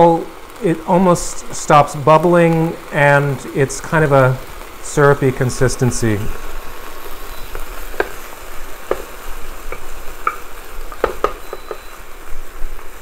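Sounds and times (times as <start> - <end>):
sauce sizzling in a skillet: 0.0 - 13.0.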